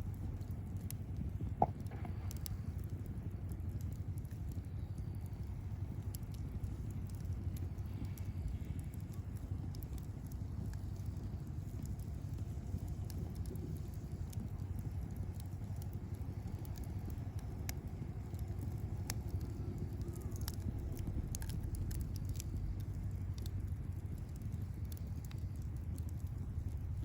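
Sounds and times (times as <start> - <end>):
campfire crackling and popping: 0.0 - 27.0
low fire rumble: 0.0 - 27.0.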